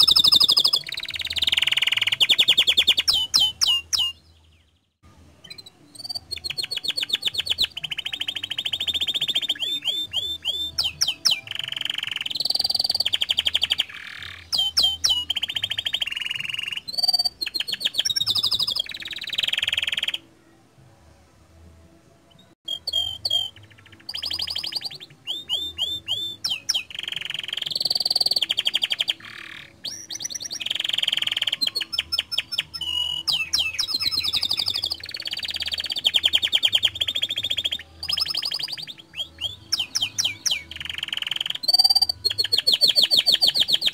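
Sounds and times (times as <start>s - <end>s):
canary singing trills: 0.0s - 20.3s, 22.3s - 43.9s.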